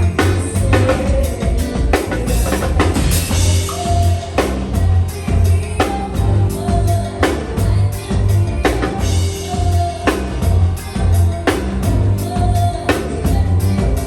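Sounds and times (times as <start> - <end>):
live band drums and bass: 0.0 - 14.0.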